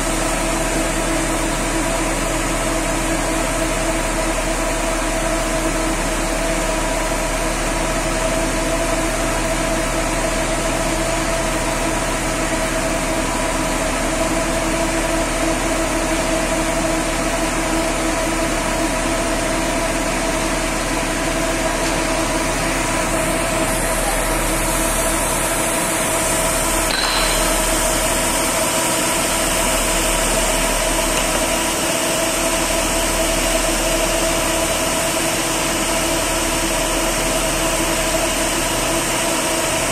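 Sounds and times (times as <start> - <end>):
bus wash machinery humming: 0.0 - 39.9.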